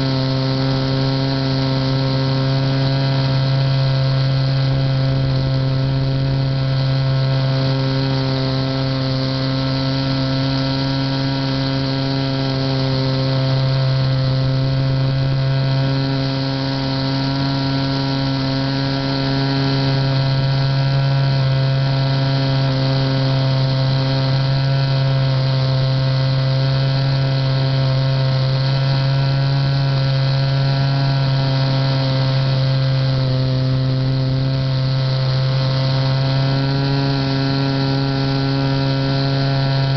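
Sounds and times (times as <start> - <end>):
model plane motor droning: 0.0 - 39.9.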